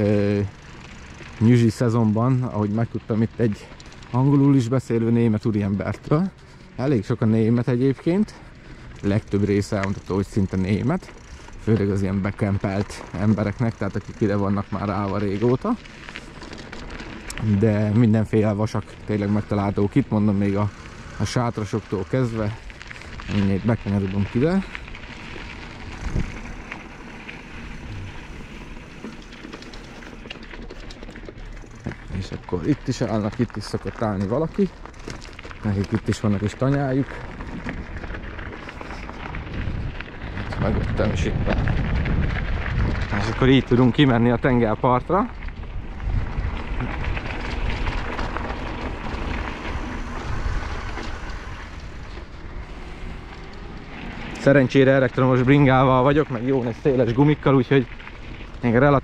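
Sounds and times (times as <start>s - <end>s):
bike tyres rolling on gravel: 0.0s - 59.0s
wind rumbling on microphone: 0.0s - 59.0s
small clicks of stones: 3.0s - 4.6s, 7.8s - 59.0s.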